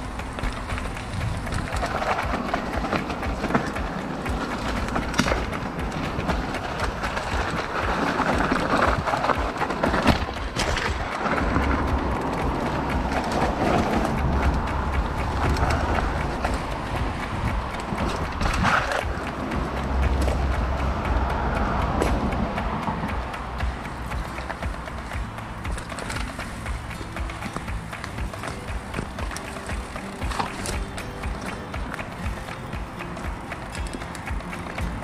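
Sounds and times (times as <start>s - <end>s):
bike rattling: 0.0s - 35.0s
bike tyres rolling on trail: 0.0s - 35.0s.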